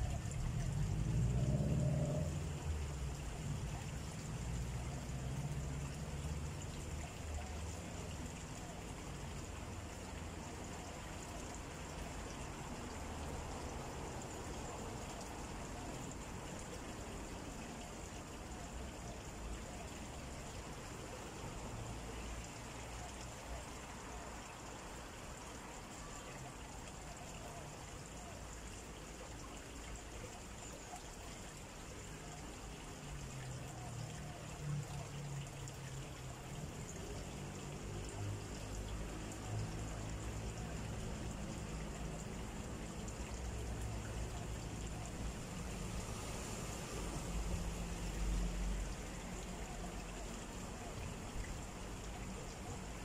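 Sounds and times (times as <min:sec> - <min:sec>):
steady outdoor hiss: 0:00.0 - 0:53.0.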